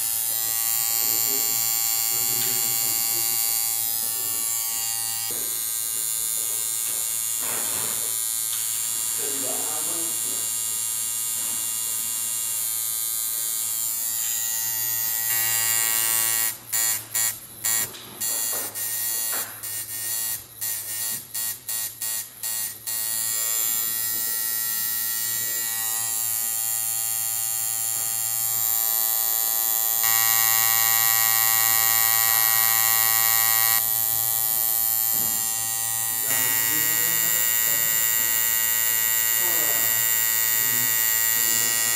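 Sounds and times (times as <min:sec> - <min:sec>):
tattoo machine buzzing: 0:00.0 - 0:41.9.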